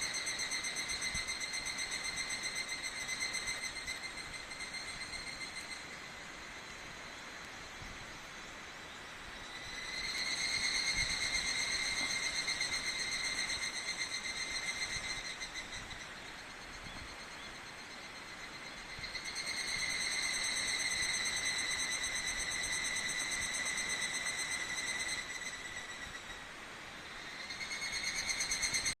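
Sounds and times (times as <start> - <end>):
cicada singing a pulsing call: 0.0 - 29.0.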